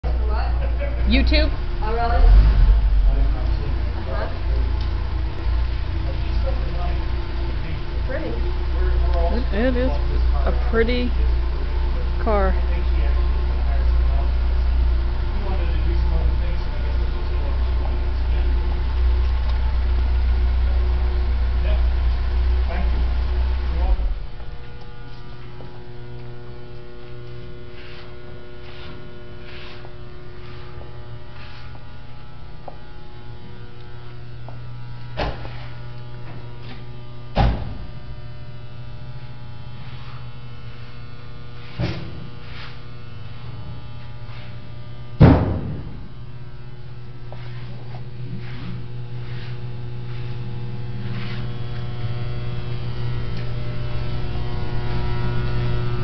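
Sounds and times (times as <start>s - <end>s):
low electrical mains hum: 0.0s - 56.0s.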